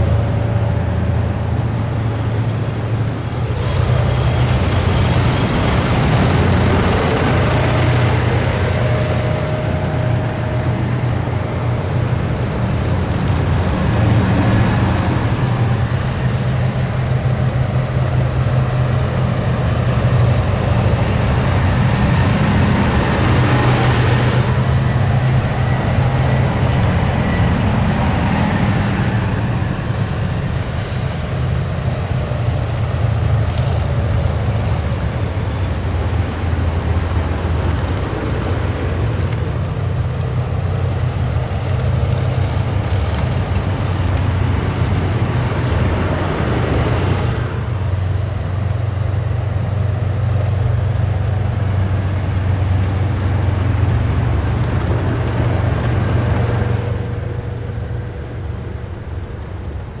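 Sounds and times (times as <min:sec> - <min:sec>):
heavy vehicles driving past: 0:00.0 - 1:00.0.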